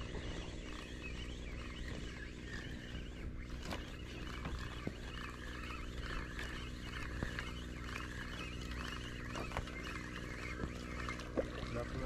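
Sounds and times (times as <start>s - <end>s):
fishing reel being cranked: 0.0s - 12.0s
small reel clicks: 0.0s - 12.0s.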